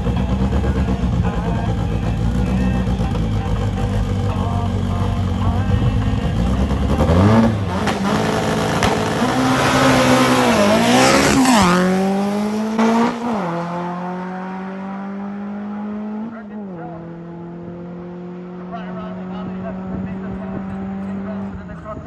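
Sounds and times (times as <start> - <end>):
race car engine at full throttle: 0.0 - 22.0.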